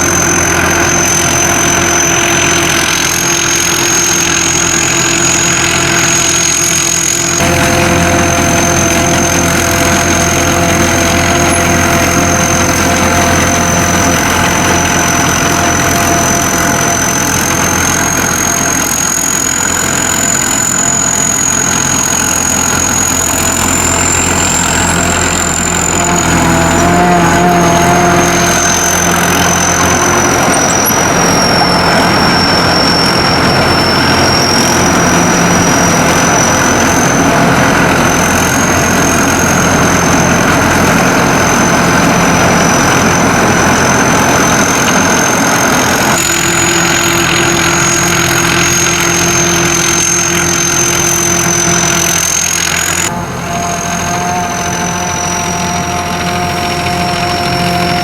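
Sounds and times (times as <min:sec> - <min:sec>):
combine harvester engine whining: 0:00.0 - 0:58.0.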